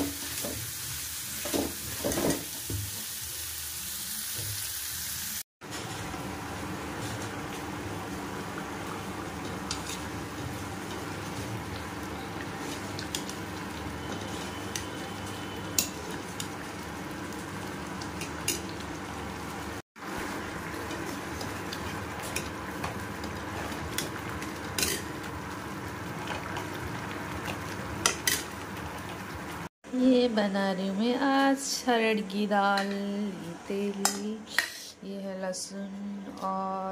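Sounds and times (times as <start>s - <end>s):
curry sizzling: 0.0s - 29.7s.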